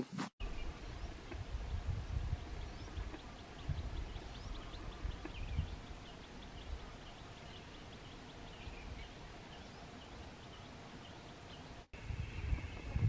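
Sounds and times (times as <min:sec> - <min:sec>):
outdoor ambience: 0:00.0 - 0:13.0
small bird chirping: 0:00.4 - 0:12.9.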